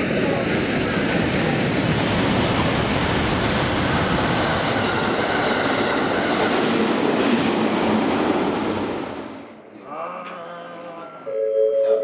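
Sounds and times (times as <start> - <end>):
train passing: 0.0 - 9.6.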